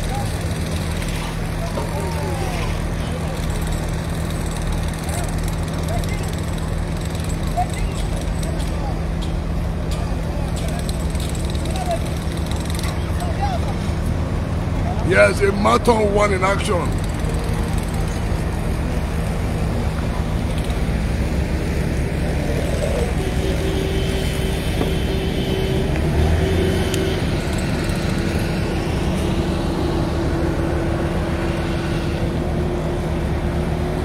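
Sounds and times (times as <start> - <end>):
engine rumbling: 0.0 - 34.0.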